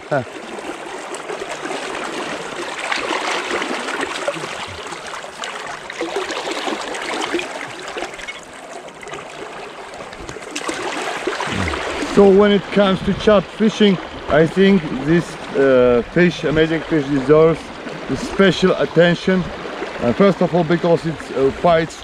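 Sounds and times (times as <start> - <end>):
river current running: 0.0 - 22.0.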